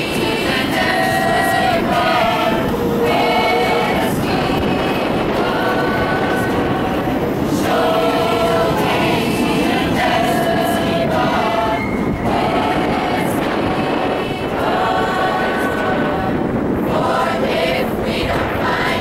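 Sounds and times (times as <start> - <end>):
choir singing: 0.0 - 19.0
steady low rumble: 0.0 - 19.0.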